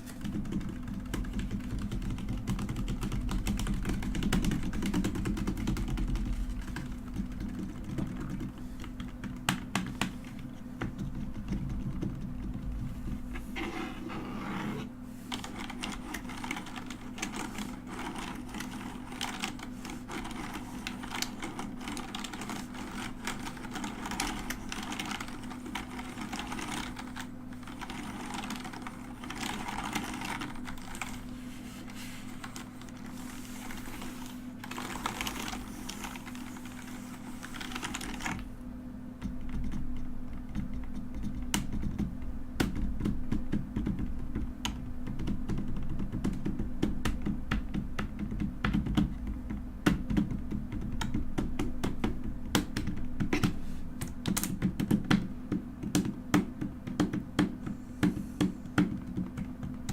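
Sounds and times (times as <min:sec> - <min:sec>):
mechanical keyboard typing: 0:00.0 - 0:10.1, 0:10.8 - 0:12.8, 0:15.3 - 0:31.3, 0:33.6 - 0:38.4, 0:39.2 - 0:59.9
steady low hum: 0:00.0 - 0:59.9.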